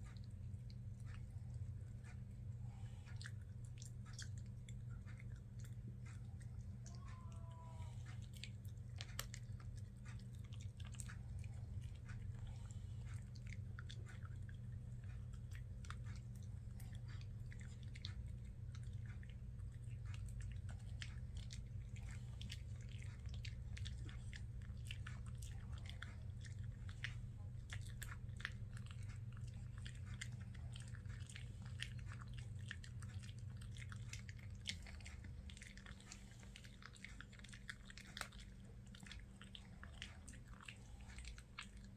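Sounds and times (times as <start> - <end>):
dog gnawing a chew: 0.0 - 41.9
steady low hum: 0.0 - 41.9.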